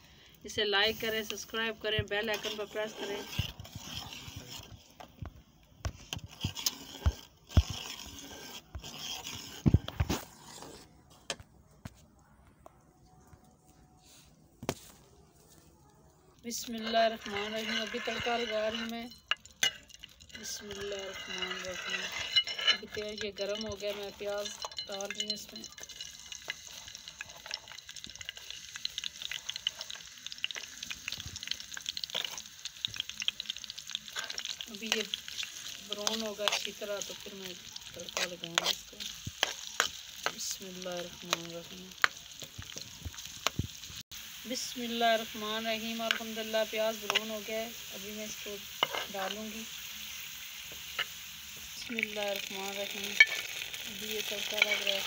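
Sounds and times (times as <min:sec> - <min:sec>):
onions sizzling in hot oil: 0:00.0 - 0:10.6, 0:16.4 - 0:55.0
metal pot and utensils scraping: 0:00.9 - 0:05.1, 0:05.9 - 0:11.3, 0:16.5 - 0:44.0, 0:44.9 - 0:55.0
metal spoon stirring: 0:01.0 - 0:05.1, 0:05.9 - 0:10.9, 0:16.4 - 0:43.6, 0:45.2 - 0:51.2, 0:51.8 - 0:55.0.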